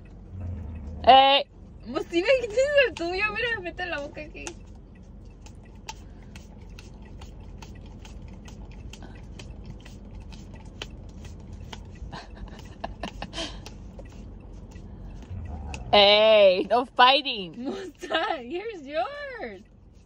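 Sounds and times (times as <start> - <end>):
steady low hum: 0.0 - 20.0
dog lapping: 2.0 - 20.0.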